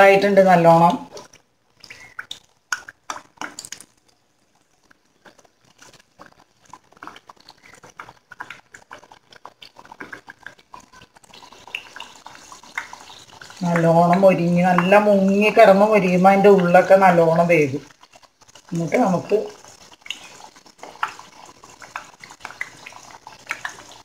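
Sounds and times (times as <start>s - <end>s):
fritter sizzling in hot oil: 0.0s - 24.0s.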